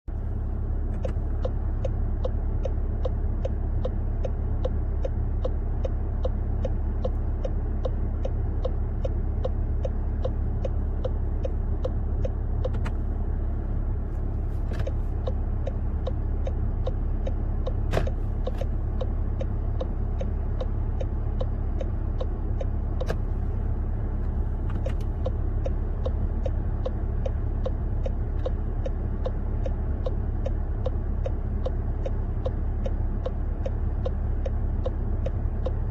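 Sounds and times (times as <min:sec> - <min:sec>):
low car rumble: 0:00.0 - 0:35.9
turn signal ticking: 0:00.1 - 0:35.9.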